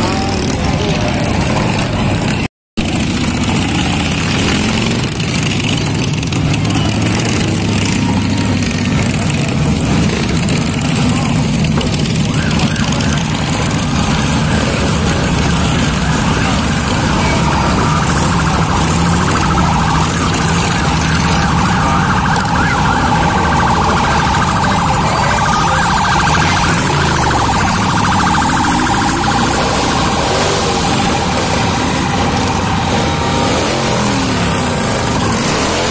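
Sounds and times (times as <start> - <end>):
motorcycles passing slowly: 0.0 - 35.9
warbling siren: 6.9 - 35.9.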